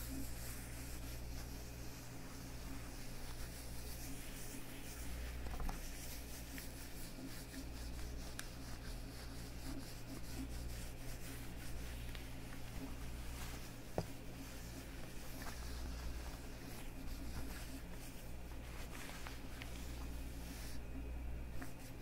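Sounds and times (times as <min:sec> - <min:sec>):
leather gloves rubbing: 0:00.0 - 0:22.0
steady low hum: 0:00.0 - 0:22.0.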